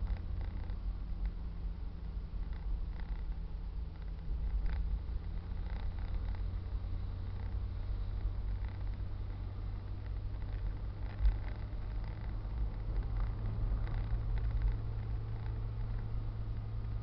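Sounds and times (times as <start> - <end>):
car engine and tyre rumble: 0.0 - 17.0
light rattles: 0.0 - 17.0.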